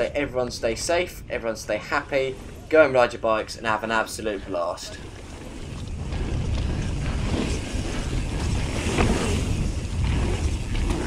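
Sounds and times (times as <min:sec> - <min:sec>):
tyres rumbling on dirt: 0:00.0 - 0:11.0
wind buffeting microphone: 0:00.0 - 0:11.0.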